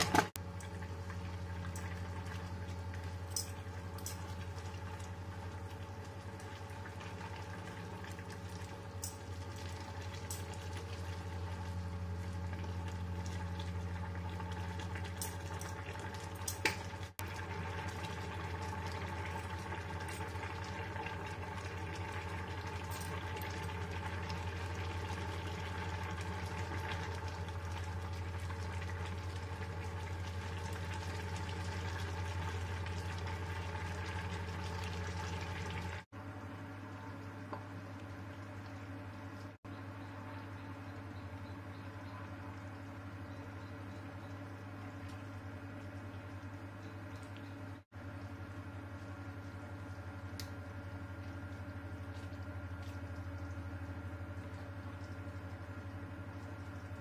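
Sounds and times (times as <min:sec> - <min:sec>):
liquid simmering and bubbling: 0:00.0 - 0:57.0
steady low hum: 0:00.0 - 0:57.0.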